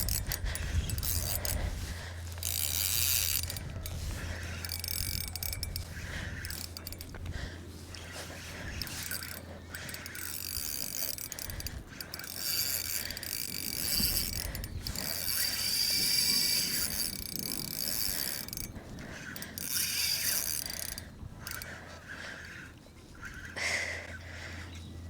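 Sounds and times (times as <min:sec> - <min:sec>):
fishing reel clicking and buzzing: 0:00.0 - 0:24.6.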